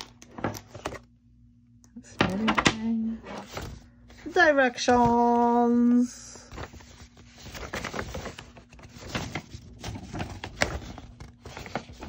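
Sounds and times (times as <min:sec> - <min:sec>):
rustling of packaging: 0:02.3 - 0:12.0.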